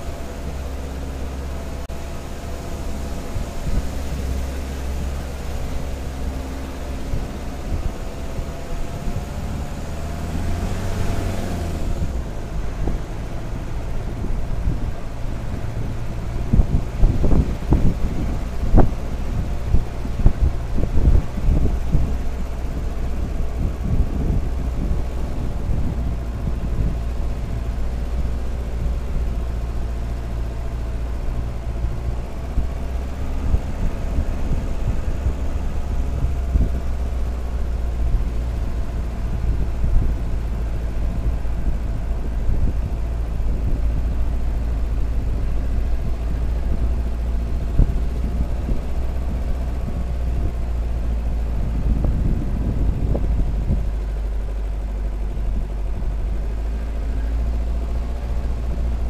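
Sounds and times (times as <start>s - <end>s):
engine drone: 0.0s - 59.0s
vehicle knocking over ruts: 0.0s - 59.0s.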